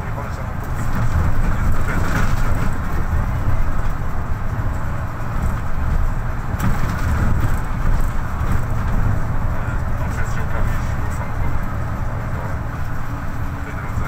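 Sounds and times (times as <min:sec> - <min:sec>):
bus diesel engine drone: 0:00.0 - 0:14.0
road and tyre noise: 0:00.0 - 0:14.0.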